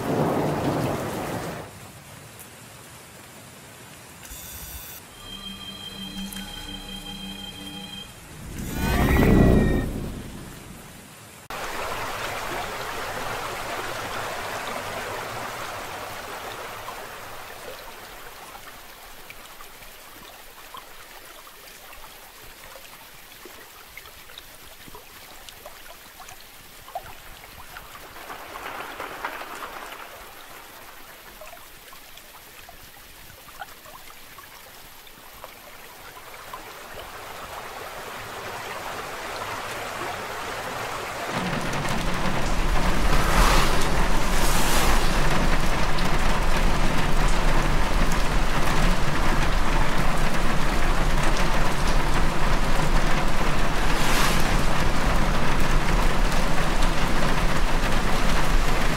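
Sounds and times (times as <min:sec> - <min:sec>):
rain drops ticking: 0:00.0 - 0:04.3, 0:05.1 - 0:08.7, 0:09.6 - 0:58.9
running water rushing: 0:05.0 - 0:58.9.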